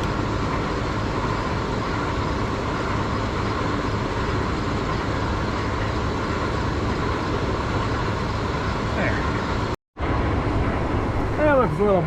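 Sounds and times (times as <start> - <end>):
mechanical drone with hiss: 0.0 - 12.0.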